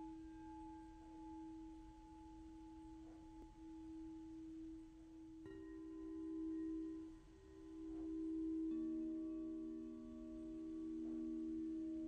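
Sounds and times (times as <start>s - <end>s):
singing bowl ringing low tone: 0.0s - 12.0s.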